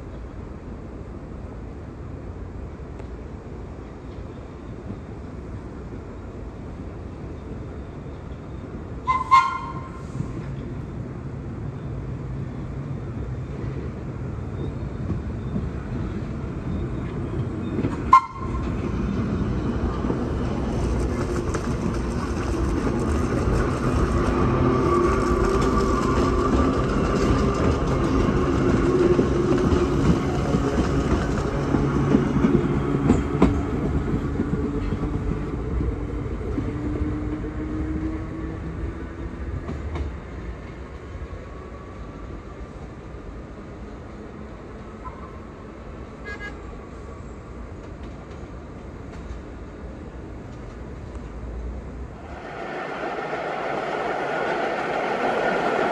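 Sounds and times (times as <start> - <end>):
subway train rumbling on rails: 0.0 - 55.9
train whine: 1.8 - 42.7, 52.0 - 55.9.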